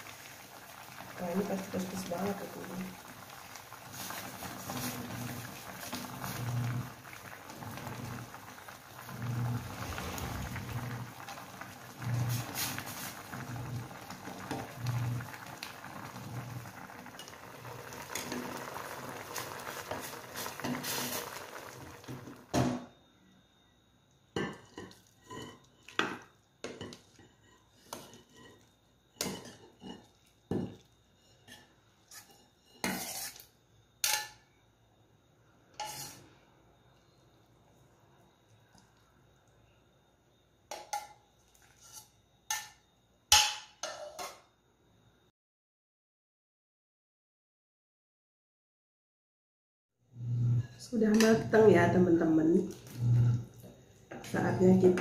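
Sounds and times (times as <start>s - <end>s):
soup boiling and bubbling: 0.0s - 34.2s, 35.3s - 42.7s, 50.0s - 55.0s.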